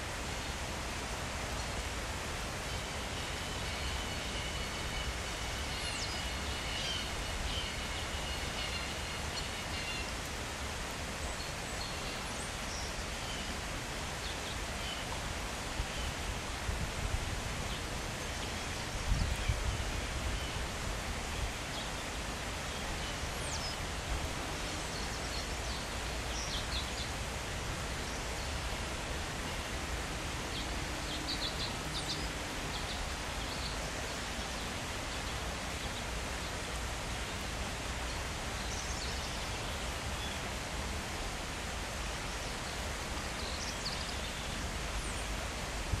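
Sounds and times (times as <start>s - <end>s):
breeze and rustling leaves: 0.0s - 46.0s.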